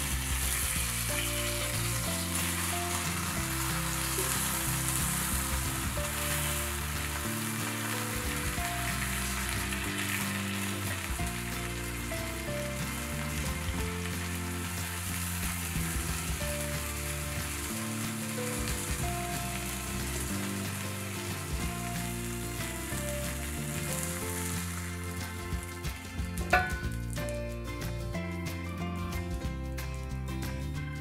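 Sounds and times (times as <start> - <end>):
wrap sizzling in a skillet: 0.0 - 27.9
background music: 0.0 - 31.0.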